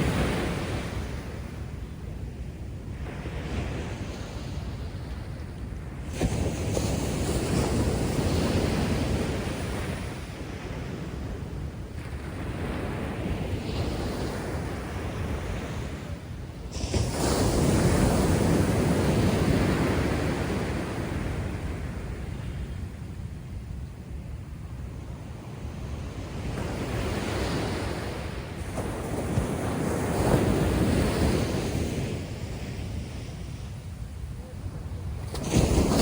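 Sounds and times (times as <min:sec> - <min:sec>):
waves breaking on beach: 0:00.0 - 0:36.0
wind rumble on microphone: 0:00.0 - 0:36.0.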